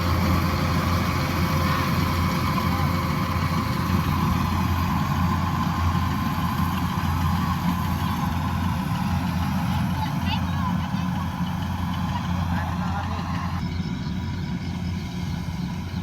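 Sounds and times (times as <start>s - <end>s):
large engine running steadily: 0.0s - 16.0s.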